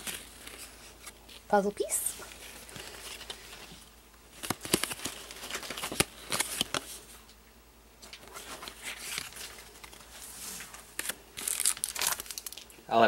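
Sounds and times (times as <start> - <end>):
cards rustling: 0.0 - 7.2, 8.0 - 12.7.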